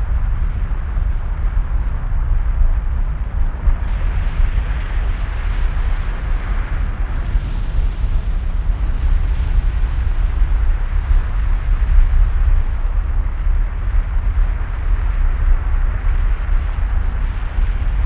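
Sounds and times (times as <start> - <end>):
lava fountain rumble and hiss: 0.0 - 18.0.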